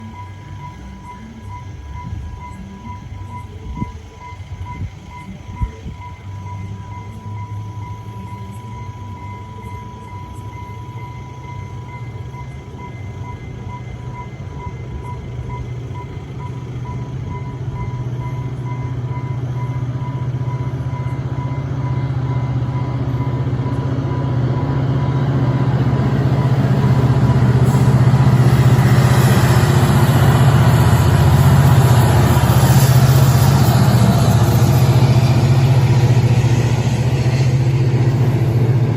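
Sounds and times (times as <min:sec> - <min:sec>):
diesel locomotive engine drone: 0:00.0 - 0:38.9
level-crossing alarm beeping: 0:00.0 - 0:38.9.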